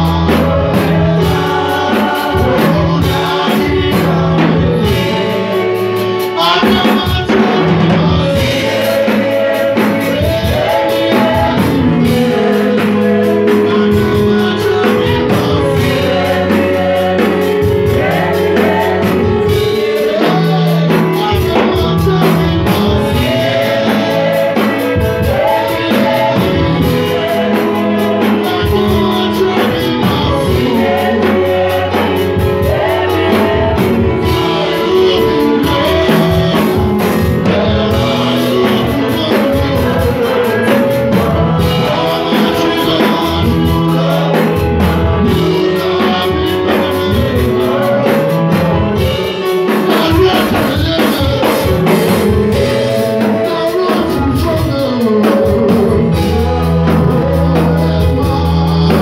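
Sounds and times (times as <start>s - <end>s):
bass notes: 0.0s - 49.2s, 50.1s - 59.0s
drum kit: 0.0s - 59.0s
keyboard: 0.0s - 59.0s
women singing gospel: 0.0s - 59.0s.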